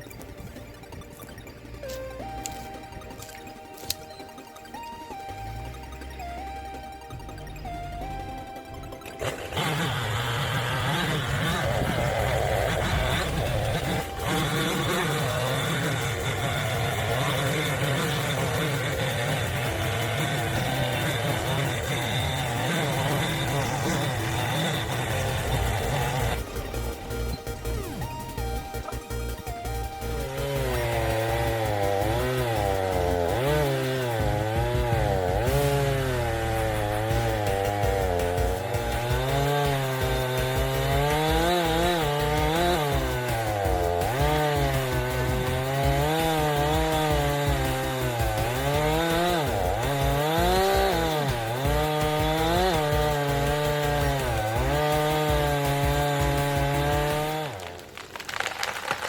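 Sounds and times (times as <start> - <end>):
chainsaw cutting into tree: 0.0 - 59.0.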